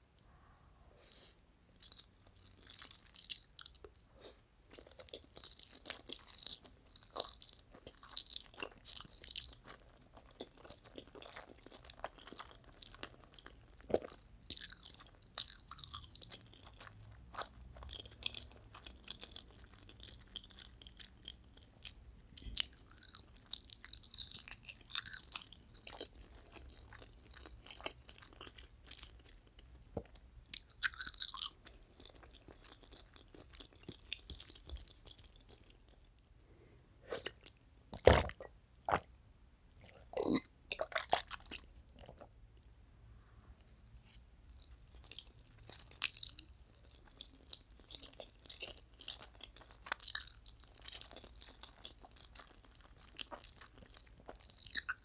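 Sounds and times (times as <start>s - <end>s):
chewing noodles close up: 1.4s - 36.3s, 39.8s - 42.3s, 44.0s - 55.0s.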